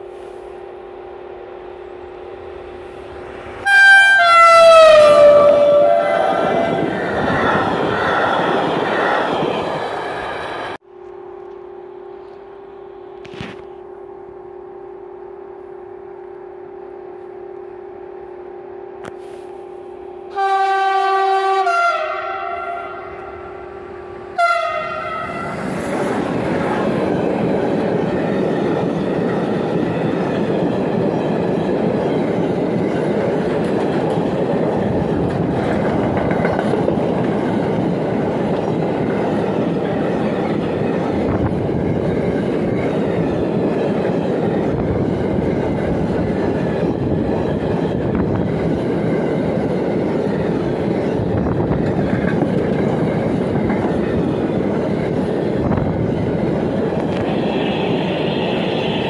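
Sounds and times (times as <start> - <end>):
steel wheels rumbling on rails: 0.0 - 15.3, 16.3 - 59.0
freight train rolling past: 0.0 - 59.0.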